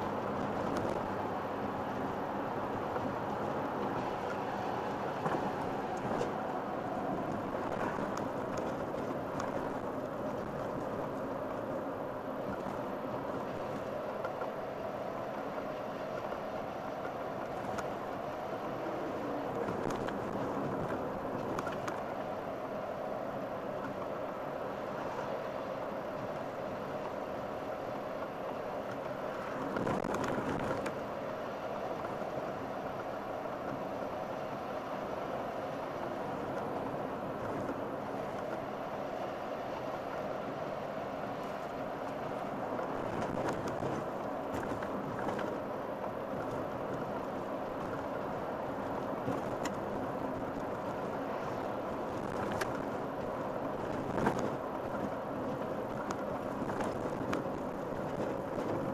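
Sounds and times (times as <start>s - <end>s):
road and engine noise inside car: 0.0s - 58.9s.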